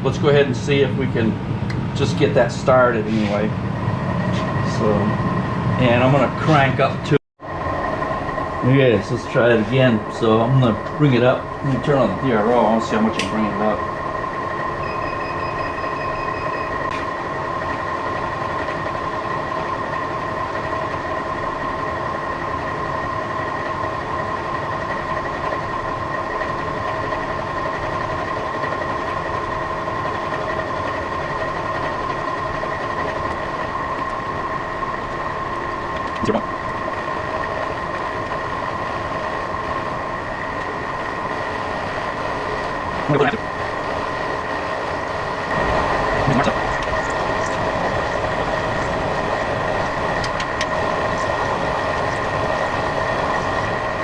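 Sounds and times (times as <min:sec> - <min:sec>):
milling machine whine and hum: 0:00.0 - 0:54.0.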